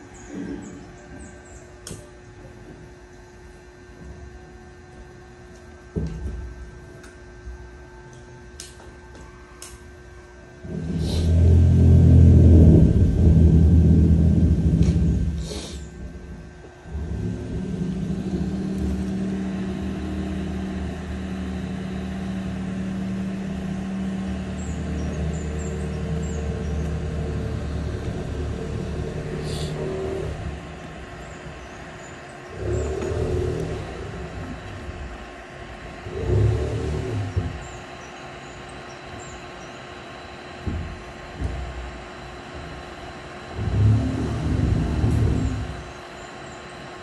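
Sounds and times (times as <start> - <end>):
heat gun fan humming: 0.0 - 47.0.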